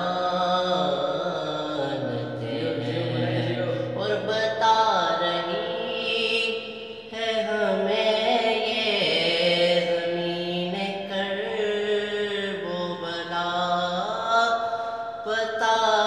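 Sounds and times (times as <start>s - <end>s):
man singing unaccompanied: 0.0s - 14.6s, 15.2s - 16.0s.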